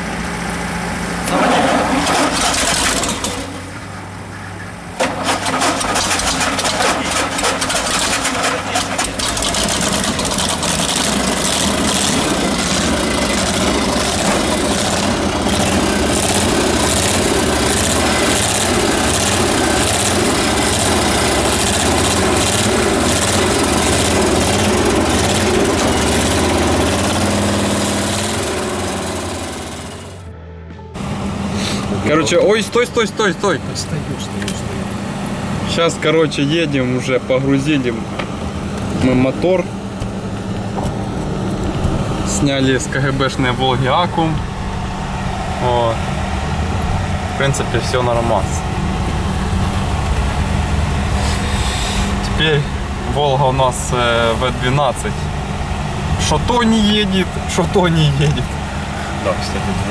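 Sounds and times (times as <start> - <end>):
car engine starting: 0.0 - 59.9.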